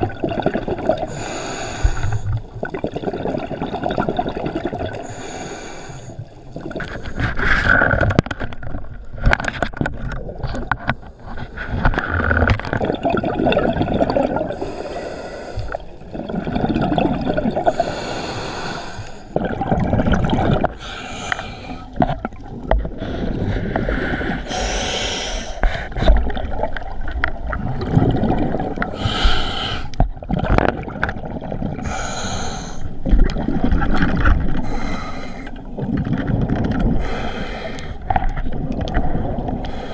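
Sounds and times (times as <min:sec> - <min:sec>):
gurgling exhaled bubbles: 0:00.0 - 0:05.2, 0:06.5 - 0:18.6, 0:19.2 - 0:39.9.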